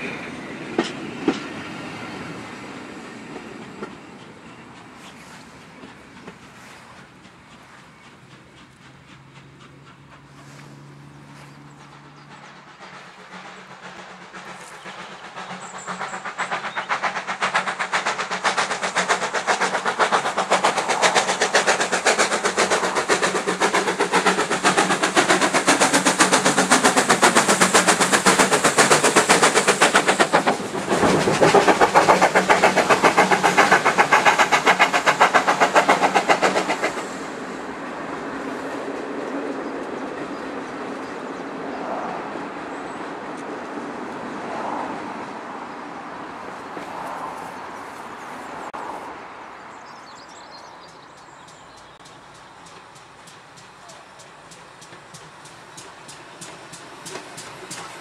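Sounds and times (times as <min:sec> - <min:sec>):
steam locomotive chuffing: 0:00.0 - 0:48.9, 0:50.6 - 0:58.0
train coaches rolling past: 0:00.0 - 0:58.0.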